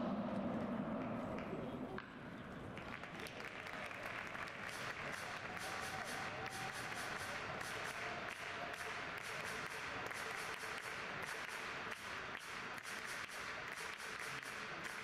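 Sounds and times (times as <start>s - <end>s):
crowd noise: 0.0s - 15.0s
people clapping: 1.0s - 15.0s.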